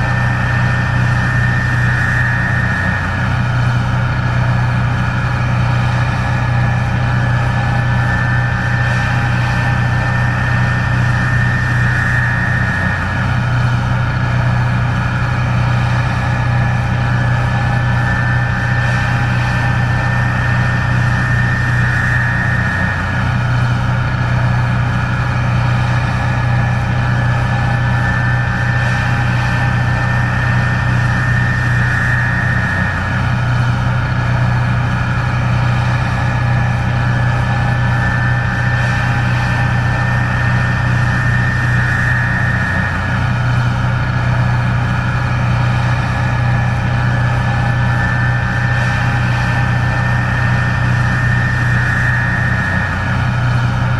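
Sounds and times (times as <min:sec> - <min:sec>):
combine harvester diesel drone: 0:00.0 - 0:53.9
machinery whine: 0:00.0 - 0:53.9.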